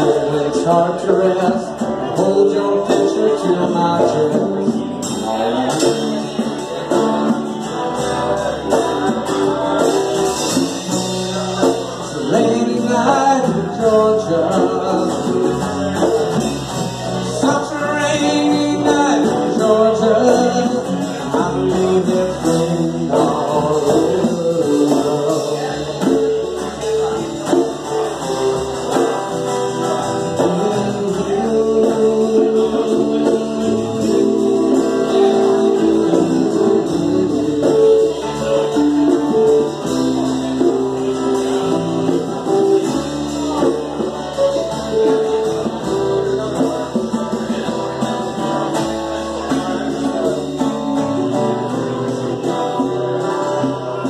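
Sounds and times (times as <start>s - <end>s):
live rock band playing: 0.0s - 54.0s
man singing: 0.0s - 54.0s.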